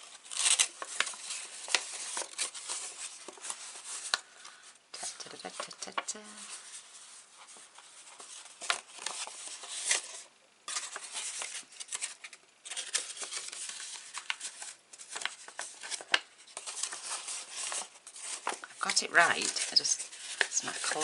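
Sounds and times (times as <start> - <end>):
cardstock rustling and crinkling: 0.0 - 21.0.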